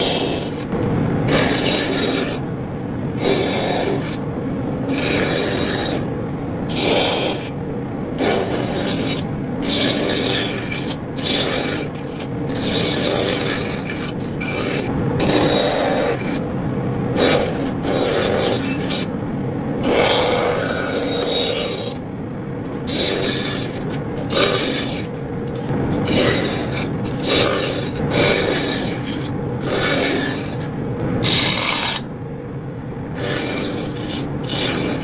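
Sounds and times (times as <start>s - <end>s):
rough scraping on wood: 0.0s - 0.7s, 1.3s - 2.4s, 3.2s - 4.2s, 4.9s - 6.1s, 6.7s - 7.6s, 8.2s - 16.4s, 17.2s - 19.1s, 19.8s - 22.0s, 22.7s - 32.1s, 33.2s - 35.0s.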